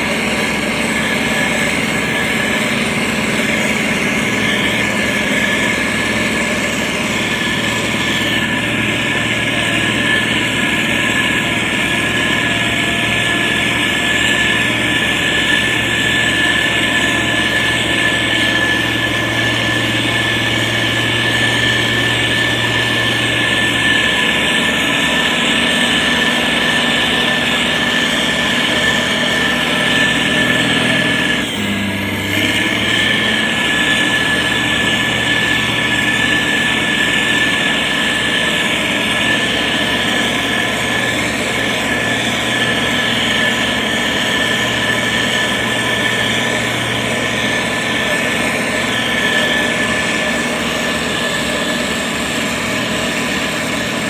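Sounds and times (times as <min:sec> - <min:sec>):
diesel engine running: 0:00.0 - 0:54.0
high whine: 0:00.0 - 0:54.0.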